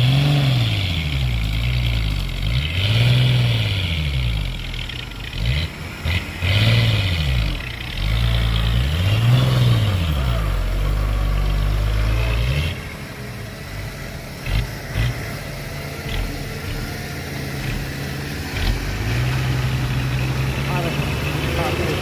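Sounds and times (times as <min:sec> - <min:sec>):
heavy diesel engine revving: 0:00.0 - 0:22.0.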